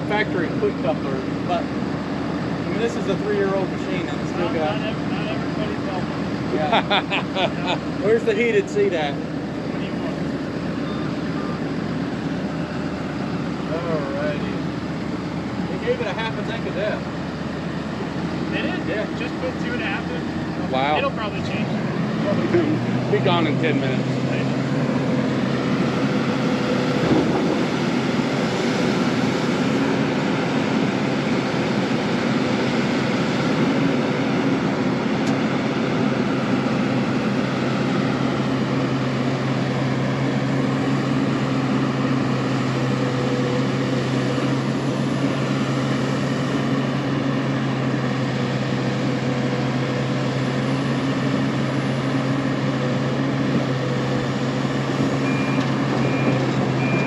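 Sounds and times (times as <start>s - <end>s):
excavator diesel engine humming: 0.0s - 57.0s.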